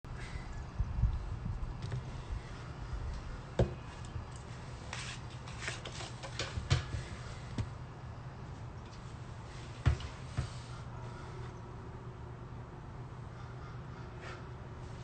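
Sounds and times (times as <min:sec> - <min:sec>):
low steady hum: 0:00.1 - 0:15.0.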